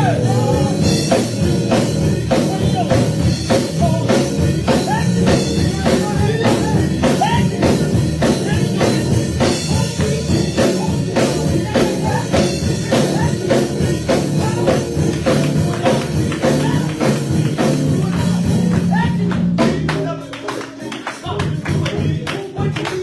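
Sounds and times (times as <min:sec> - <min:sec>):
band music: 0:00.0 - 0:23.0
drum kit beat: 0:00.0 - 0:23.0.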